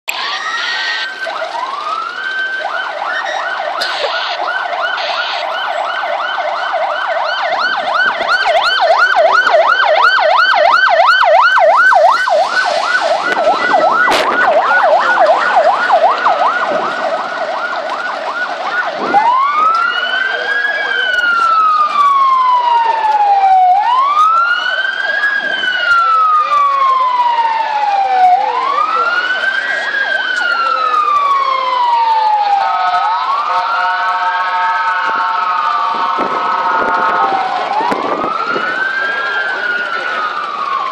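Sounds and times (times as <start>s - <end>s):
fire truck siren yelp: 0.1s - 40.9s
siren wail: 0.1s - 40.9s.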